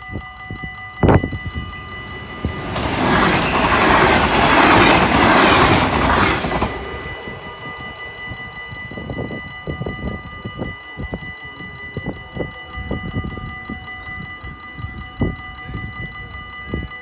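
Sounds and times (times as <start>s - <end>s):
wind rumbling on microphone: 0.0s - 16.1s
level crossing warning bell: 0.0s - 17.0s.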